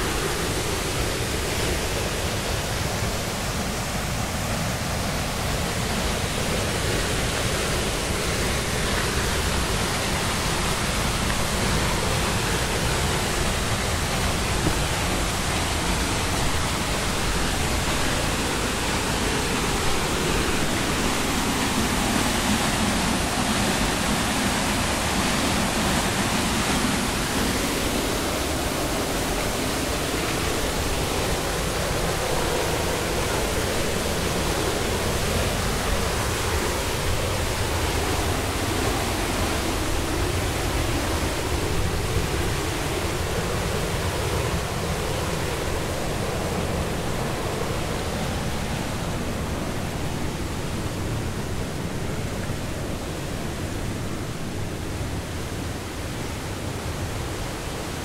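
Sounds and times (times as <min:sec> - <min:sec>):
river running over rocks: 0:00.0 - 0:58.0
waterfall rushing: 0:00.0 - 0:58.0.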